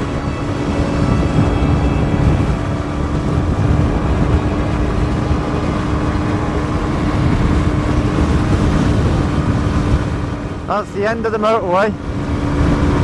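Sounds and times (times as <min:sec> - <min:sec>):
motorcycle engine at high revs: 0:00.0 - 0:10.7, 0:11.8 - 0:13.0
wind rumble: 0:00.0 - 0:13.0.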